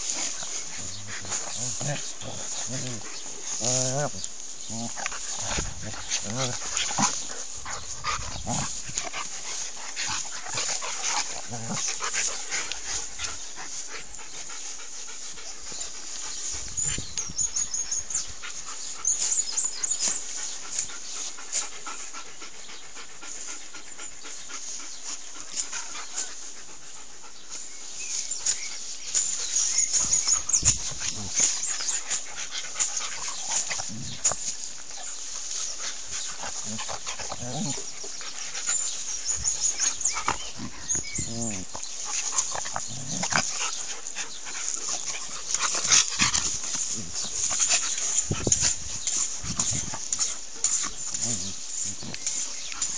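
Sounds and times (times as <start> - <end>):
dog panting: 0.0 - 27.8, 28.6 - 52.9
dogs scuffling in grass: 0.0 - 52.9.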